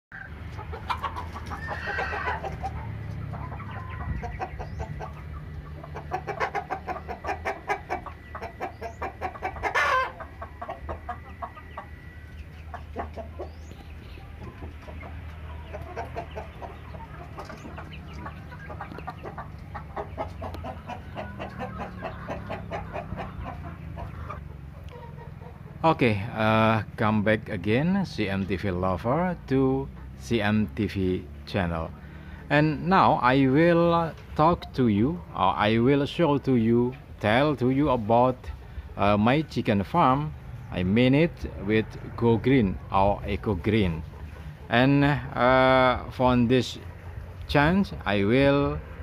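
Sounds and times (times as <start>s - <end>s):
chickens clucking: 0.1s - 49.0s.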